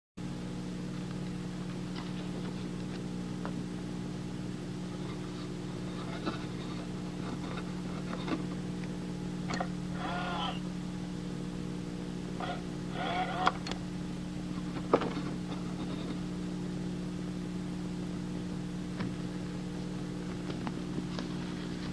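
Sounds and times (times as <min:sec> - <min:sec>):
low electrical hum: 0:00.2 - 0:21.9.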